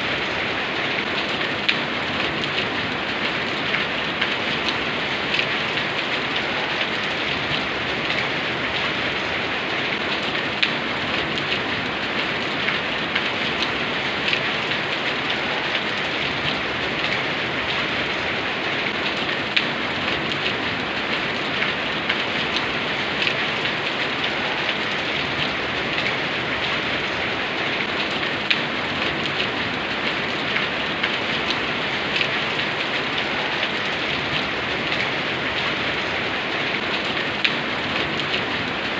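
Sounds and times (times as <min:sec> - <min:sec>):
raindrops ticking on a surface: 0:00.0 - 0:38.9
steady rain falling: 0:00.0 - 0:38.9.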